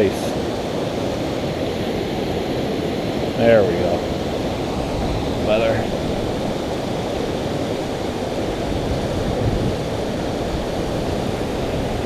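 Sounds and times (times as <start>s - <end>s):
creek water rushing: 0.0s - 12.0s
wind buffeting microphone: 0.0s - 12.0s.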